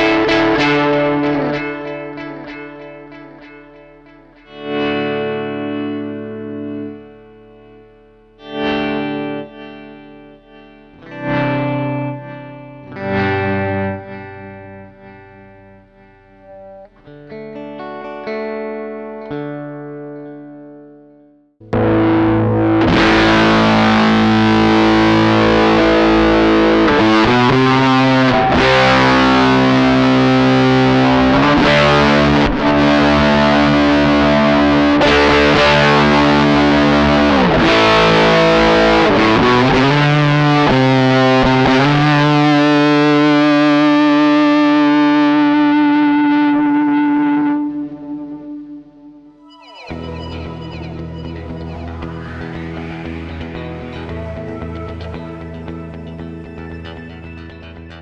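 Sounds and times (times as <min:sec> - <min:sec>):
distorted electric guitar chords: 0:00.0 - 0:58.0.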